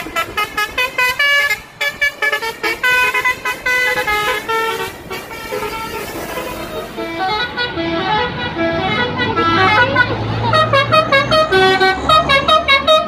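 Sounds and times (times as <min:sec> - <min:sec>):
musical air horn melody: 0:00.0 - 0:13.0.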